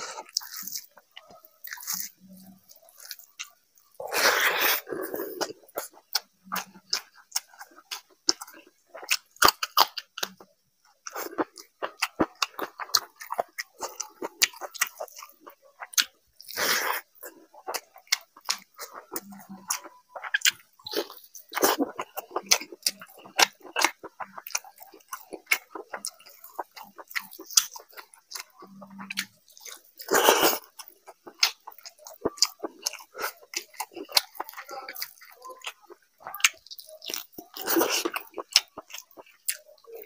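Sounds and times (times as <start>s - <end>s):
man chewing: 0.0s - 40.0s.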